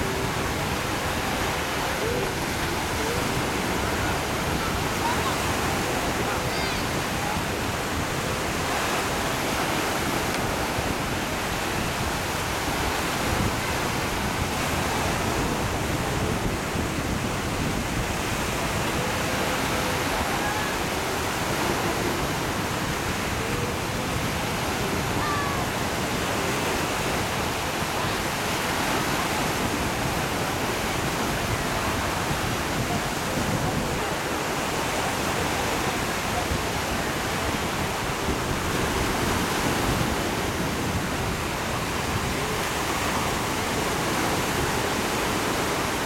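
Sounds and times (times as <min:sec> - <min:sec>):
small waves lapping on shore: 0:00.0 - 0:46.0.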